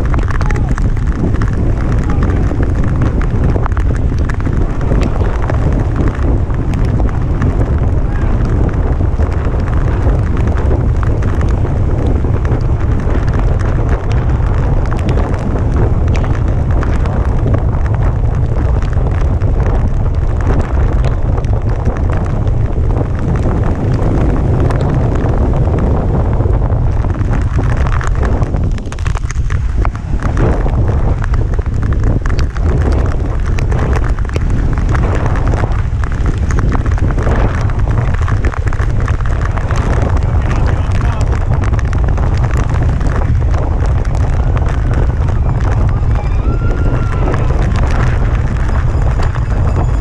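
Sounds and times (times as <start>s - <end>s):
wind rumble on microphone: 0.0s - 50.0s.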